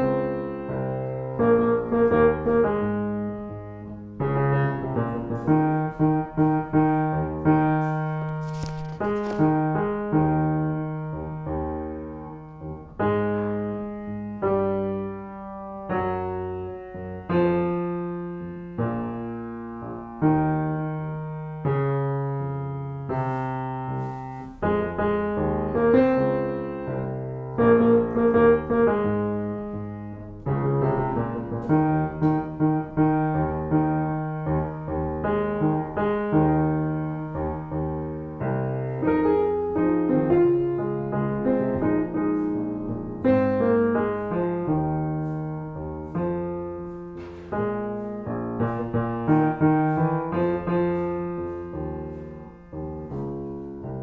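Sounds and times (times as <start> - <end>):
solo piano playing chords: 0.0 - 54.0.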